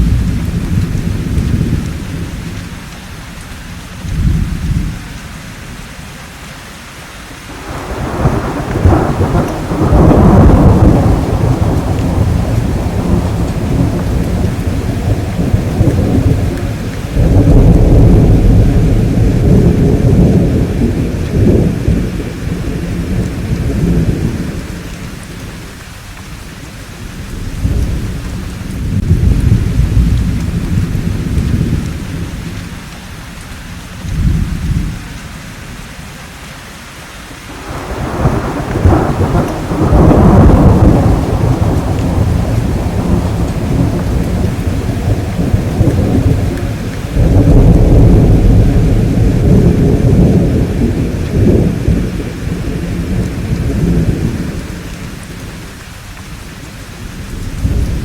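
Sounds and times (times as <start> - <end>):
deep rolling thunder: 0.0 - 2.9, 4.0 - 5.2, 7.5 - 25.9, 26.9 - 32.9, 33.9 - 35.3, 37.5 - 55.7, 57.0 - 58.0
steady rain: 0.0 - 58.0.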